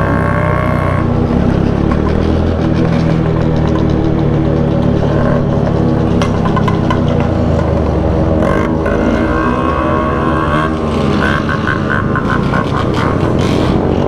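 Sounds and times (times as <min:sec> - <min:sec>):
motorcycle engines running: 0:00.0 - 0:14.0.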